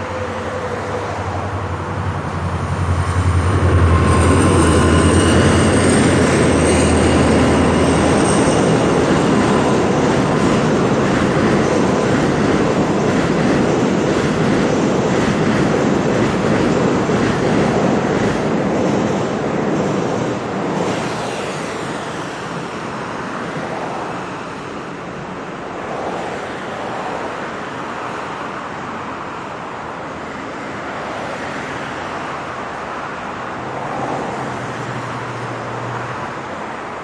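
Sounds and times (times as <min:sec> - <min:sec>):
road traffic noise: 0:00.0 - 0:37.0
train rumbling over viaduct: 0:00.0 - 0:37.0.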